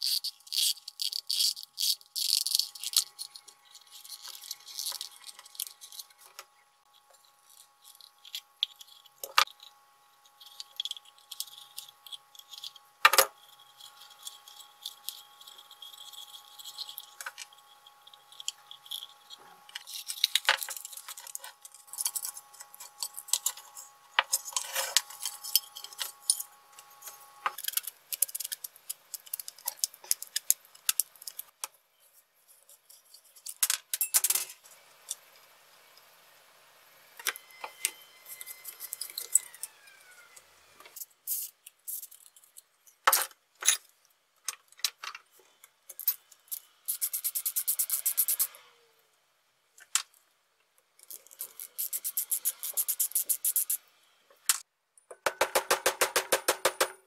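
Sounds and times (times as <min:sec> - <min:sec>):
small metal parts clicking: 0:00.0 - 0:31.6, 0:32.7 - 0:35.2, 0:37.2 - 0:39.8, 0:40.8 - 0:45.2, 0:45.9 - 0:48.5, 0:51.0 - 0:53.8.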